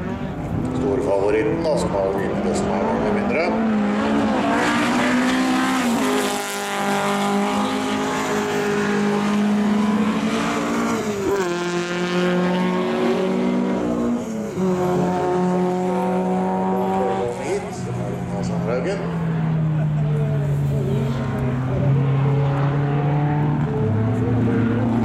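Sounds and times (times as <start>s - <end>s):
race car engines at high revs: 0.0s - 25.0s.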